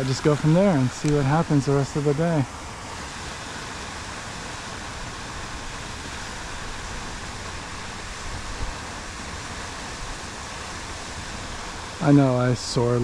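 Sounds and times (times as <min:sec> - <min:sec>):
fountain spray hissing: 0:00.0 - 0:13.0.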